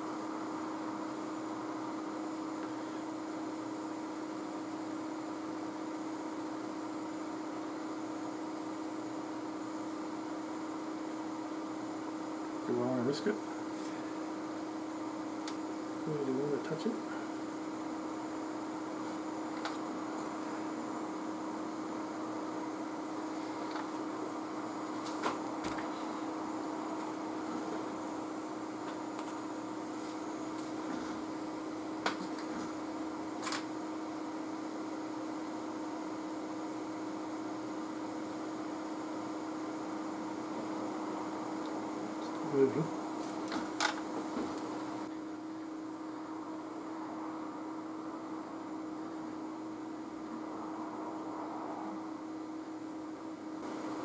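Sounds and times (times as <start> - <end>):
blower hum: 0.0 - 54.0.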